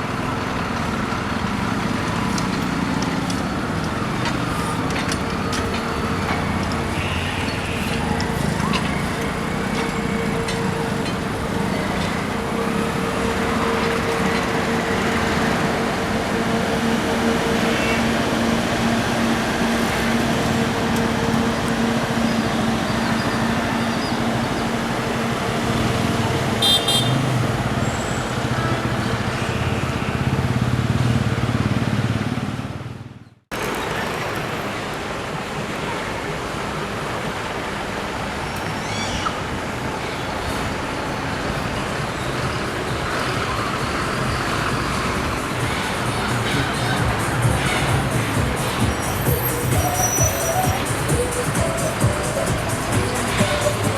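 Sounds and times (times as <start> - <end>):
vehicle engines droning: 0.0 - 53.9.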